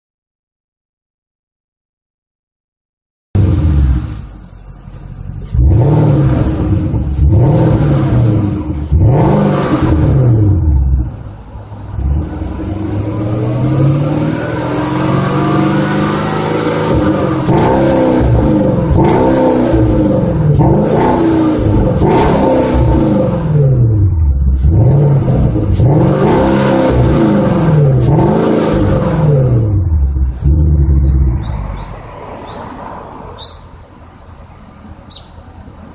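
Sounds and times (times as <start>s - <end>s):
car engine revving: 3.4s - 33.9s.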